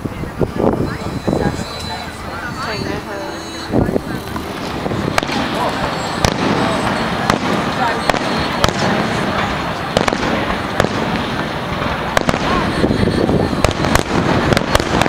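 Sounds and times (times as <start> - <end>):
dense rumble of fireworks: 0.0 - 15.0
fireworks shells bursting: 1.3 - 15.0.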